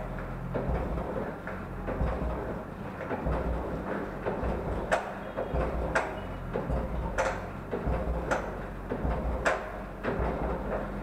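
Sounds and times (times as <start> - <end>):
engine low rumble: 0.0 - 11.0
engine metallic clacking: 0.0 - 11.0.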